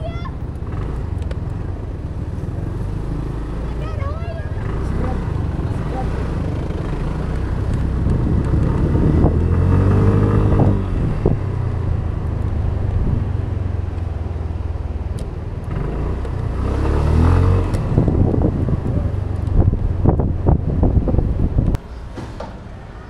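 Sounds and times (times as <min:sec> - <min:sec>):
traffic rumble: 0:00.0 - 0:23.0
vehicles passing close by: 0:00.0 - 0:23.0.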